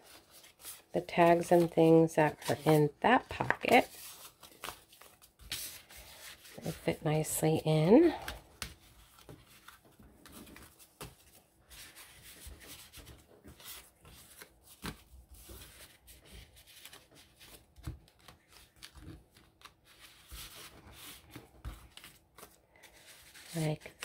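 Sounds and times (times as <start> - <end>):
paper rustling: 0.0 - 7.0, 7.8 - 24.0.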